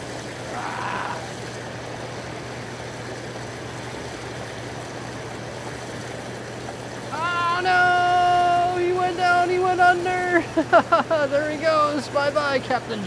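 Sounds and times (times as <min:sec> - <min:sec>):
churning water: 0:00.0 - 0:13.0
pump motor hum: 0:00.0 - 0:13.0.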